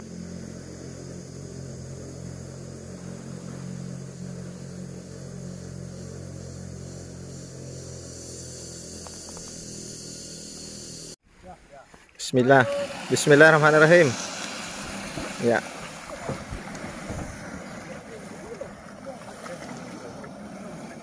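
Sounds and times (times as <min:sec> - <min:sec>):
boat engine droning: 0:00.0 - 0:11.2, 0:12.2 - 0:21.0.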